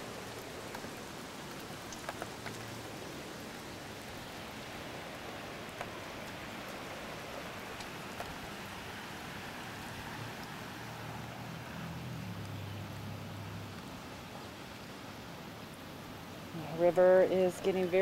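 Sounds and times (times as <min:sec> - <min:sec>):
rain falling on water and grass: 0:00.0 - 0:18.0.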